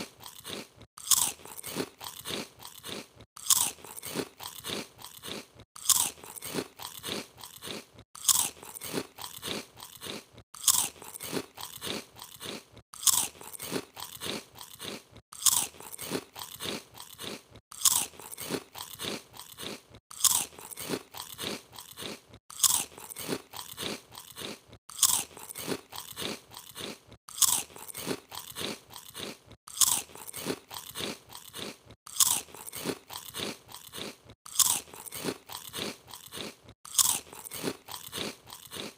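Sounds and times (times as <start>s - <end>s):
crunching potato chips: 0.0s - 38.9s.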